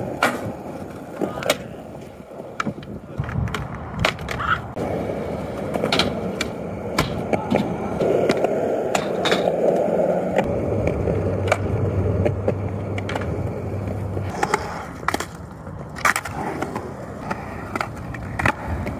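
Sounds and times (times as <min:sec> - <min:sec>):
skateboard clacks: 0:00.0 - 0:18.9
skateboard wheels rolling on concrete: 0:00.0 - 0:18.9.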